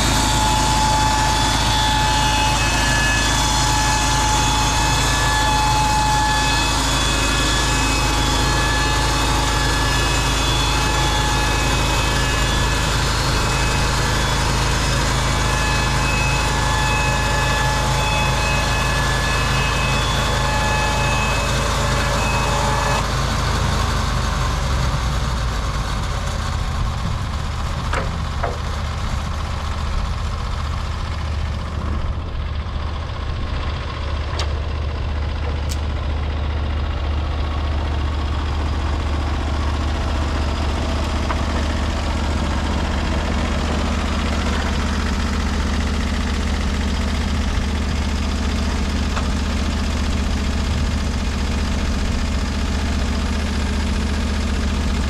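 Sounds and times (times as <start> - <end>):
bandsaw mill engine humming: 0.0 - 55.0
high steady whine: 0.0 - 55.0.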